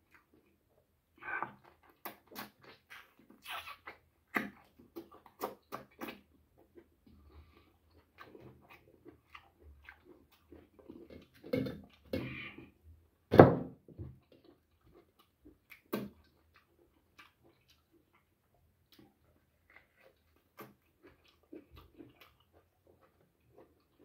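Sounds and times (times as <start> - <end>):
man chewing with lip smacks: 0.0 - 0.6, 1.2 - 12.8, 14.2 - 24.0.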